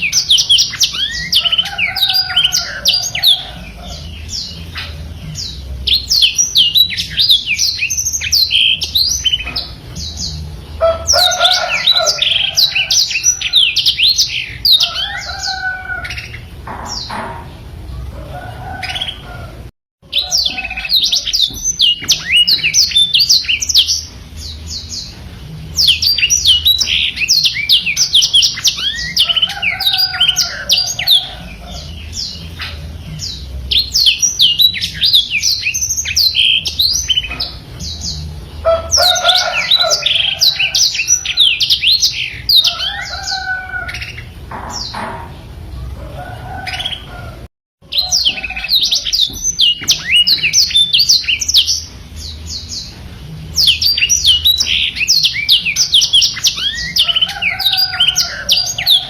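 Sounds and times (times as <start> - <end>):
canary singing twittering song: 0.0 - 59.0.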